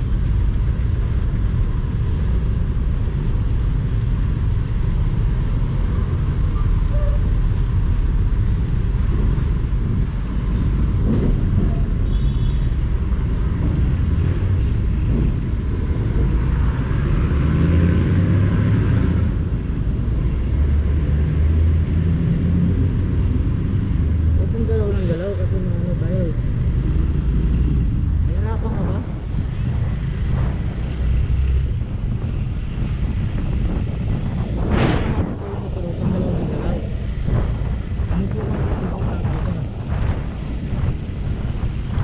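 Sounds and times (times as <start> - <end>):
tyre and road noise: 0.0 - 42.0.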